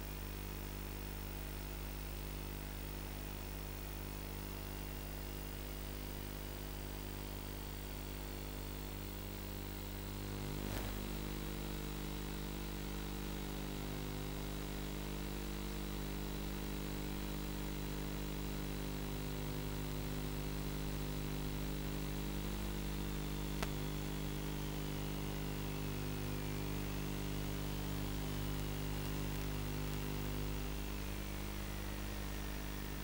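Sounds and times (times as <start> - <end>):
electrical buzzing hum with hiss: 5.8 - 33.0.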